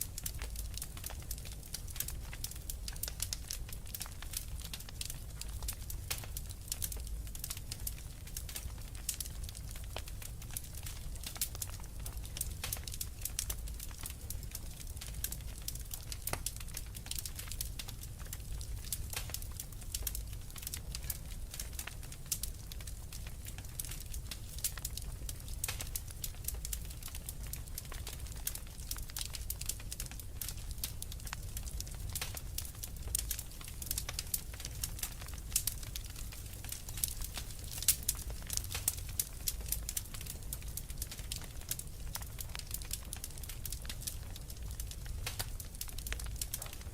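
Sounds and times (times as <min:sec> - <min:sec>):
wood fire crackling: 0:00.0 - 0:46.9
sharp pops of burning wood: 0:00.1 - 0:46.9.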